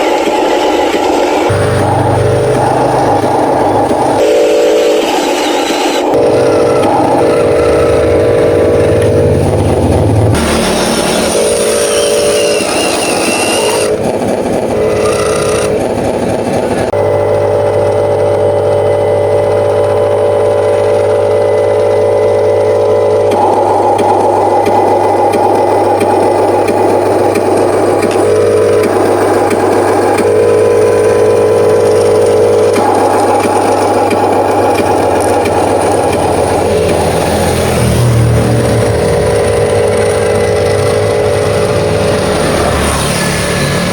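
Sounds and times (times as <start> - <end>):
steady low hum: 0.0 - 42.8
electric motors whining: 0.0 - 43.9.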